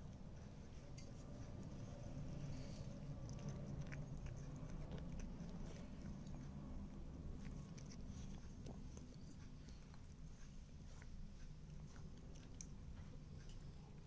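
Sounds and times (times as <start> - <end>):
cat licking and chewing: 0.0 - 14.0
low steady rumble: 0.0 - 14.0.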